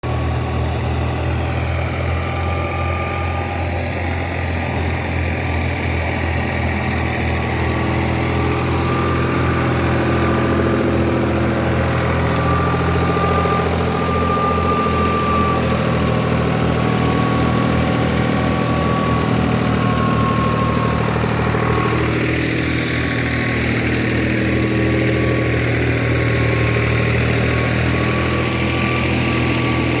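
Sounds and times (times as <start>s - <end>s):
diesel tractor engine running: 0.0s - 30.0s
thin steady whine: 0.3s - 30.0s.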